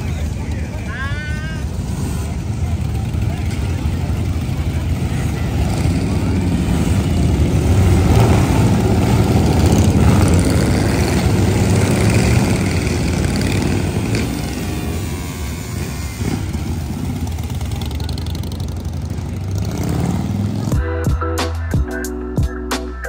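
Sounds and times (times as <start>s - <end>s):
motorcycles riding past: 0.0s - 20.8s.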